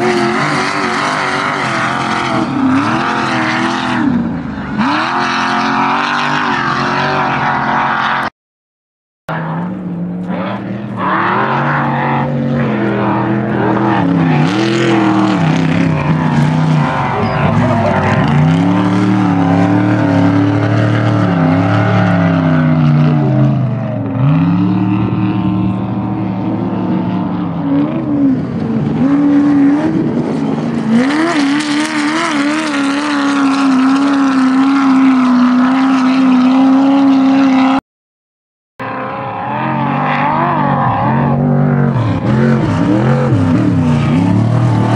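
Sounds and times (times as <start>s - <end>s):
race truck engines revving: 0.0s - 8.3s, 9.3s - 37.8s, 38.8s - 44.9s.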